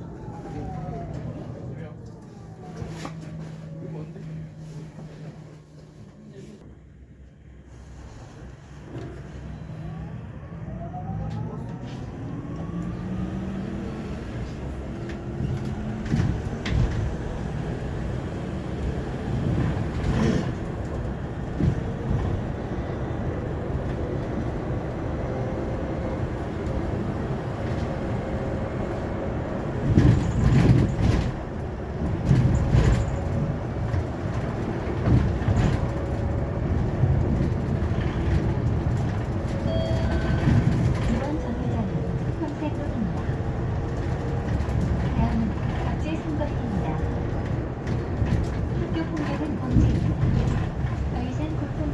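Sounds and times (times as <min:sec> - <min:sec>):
road and tyre rumble: 0:00.0 - 0:51.9.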